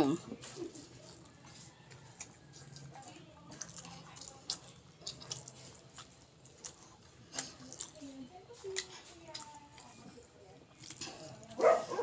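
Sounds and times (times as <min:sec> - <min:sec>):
chewing food: 0:00.0 - 0:12.0.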